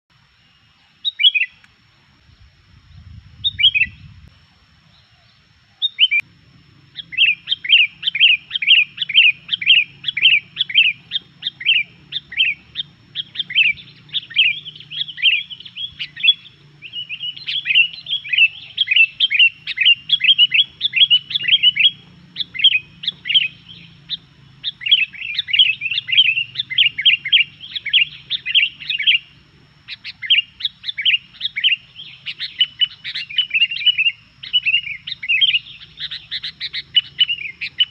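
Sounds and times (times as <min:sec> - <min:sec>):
bird chirping: 0:00.3 - 0:37.9.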